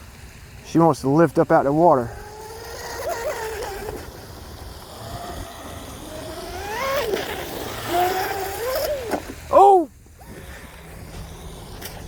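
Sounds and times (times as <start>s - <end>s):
electric boat motor whining: 0.2s - 12.0s.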